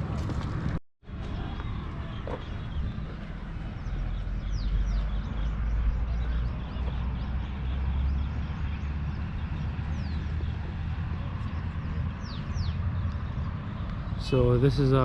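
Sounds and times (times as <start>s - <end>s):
birds chirping: 1.1s - 15.0s.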